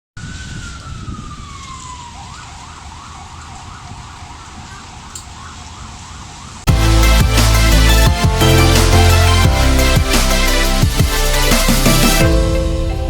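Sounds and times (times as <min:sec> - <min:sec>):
emergency vehicle siren: 0:00.2 - 0:13.0.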